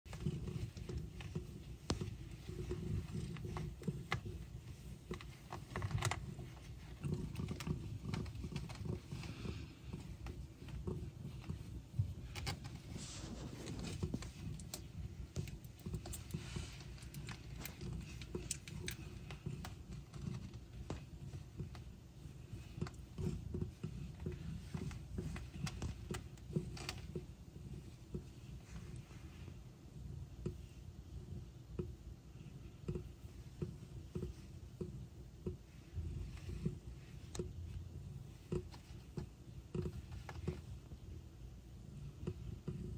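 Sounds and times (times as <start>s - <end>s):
kittens suckling soft clicks: 0.1s - 42.9s
low steady rumble: 0.1s - 42.9s.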